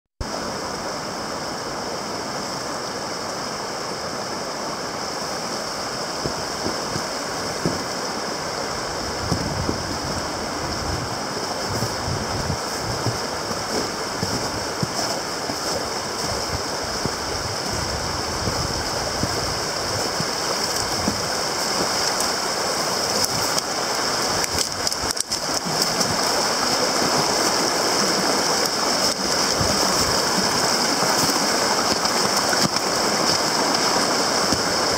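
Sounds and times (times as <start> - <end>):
river rapids rushing over rocks: 0.2 - 34.9.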